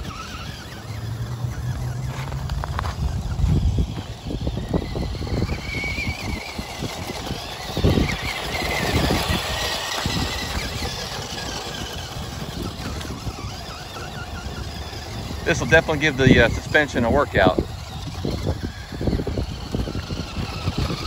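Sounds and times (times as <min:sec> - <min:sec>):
electric motor and gears whining: 0:00.0 - 0:21.0
tyres crunching on gravel: 0:00.0 - 0:21.0.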